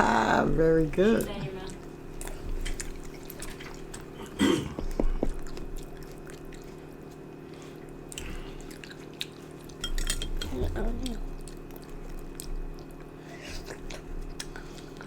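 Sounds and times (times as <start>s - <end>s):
faint steady hum: 0.0s - 15.0s
wet chewing and smacking: 1.2s - 15.0s.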